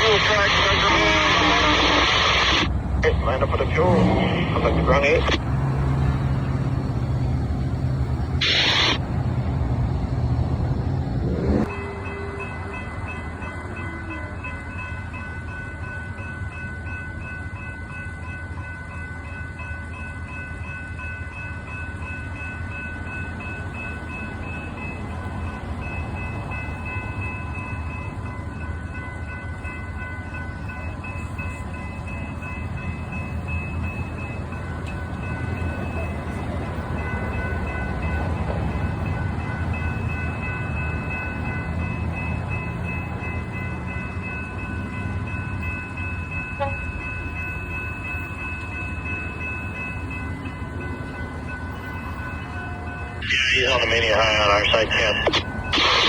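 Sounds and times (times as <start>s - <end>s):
diesel locomotive engine hum: 0.0s - 56.0s
train rumbling along rails: 0.0s - 56.0s.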